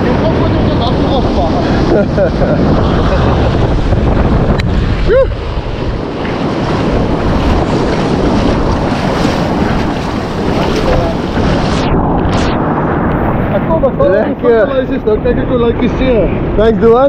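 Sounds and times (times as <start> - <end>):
shallow surf breaking: 0.0 - 17.0
wind buffeting microphone: 0.0 - 17.0.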